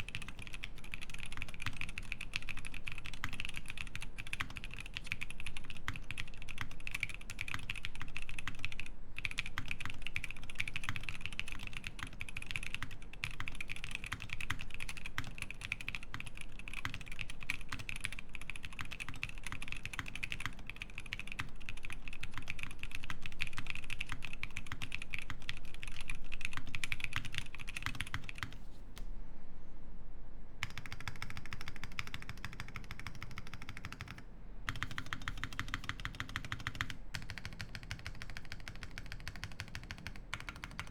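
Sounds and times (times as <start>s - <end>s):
mechanical keyboard typing: 0.0s - 28.6s, 30.6s - 40.9s.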